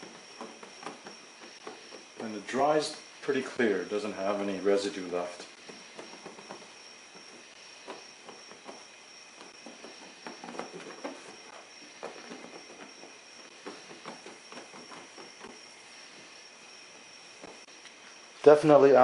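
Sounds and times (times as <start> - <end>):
towel rubbing on plastic: 0.0 - 17.8
faint high-pitched hiss: 0.0 - 19.0.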